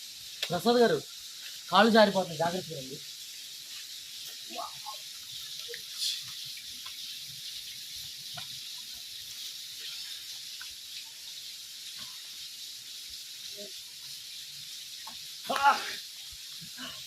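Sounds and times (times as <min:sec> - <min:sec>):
water falling over rocks: 0:00.0 - 0:17.0.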